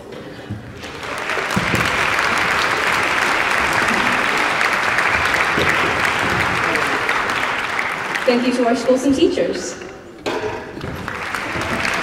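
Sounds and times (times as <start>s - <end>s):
audience applauding: 0.7s - 9.2s, 10.8s - 12.0s.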